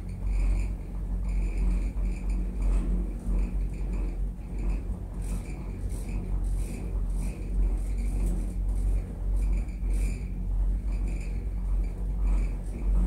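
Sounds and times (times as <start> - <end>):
gondola cabin rumble: 0.0 - 13.0.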